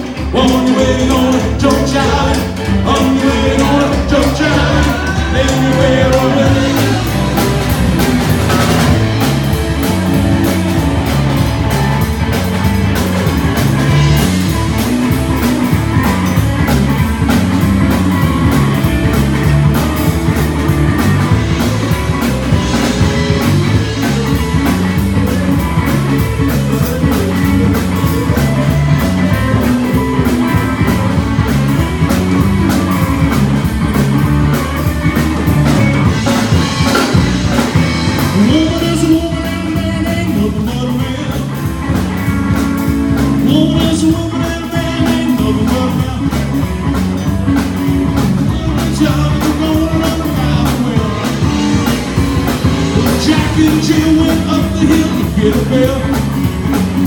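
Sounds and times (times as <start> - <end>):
blues band playing swing tune: 0.0 - 57.0
electric guitar: 0.0 - 57.0.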